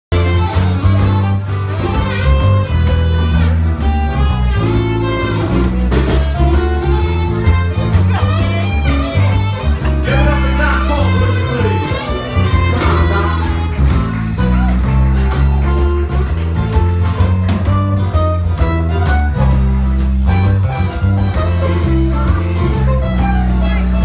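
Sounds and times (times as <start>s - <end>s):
acoustic guitar: 0.1s - 24.0s
bass line: 0.1s - 24.0s
drum kit: 0.1s - 24.0s
electric guitar: 0.1s - 24.0s.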